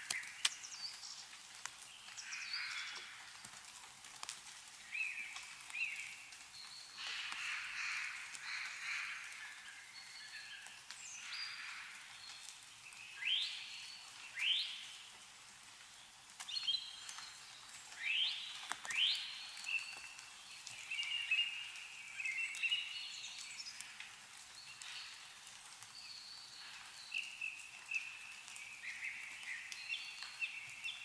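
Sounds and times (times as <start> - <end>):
songbirds calling: 0.0 - 3.6, 4.8 - 15.2, 15.9 - 31.0
meltwater dripping: 0.0 - 31.0.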